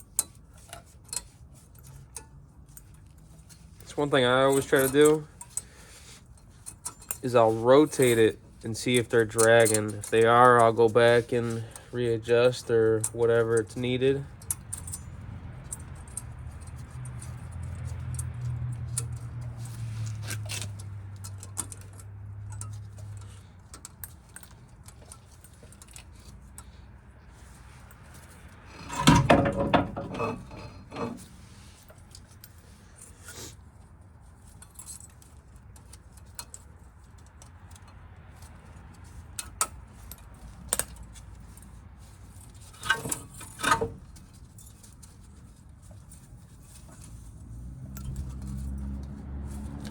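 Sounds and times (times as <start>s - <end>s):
metal tools clinking: 0.1s - 49.9s.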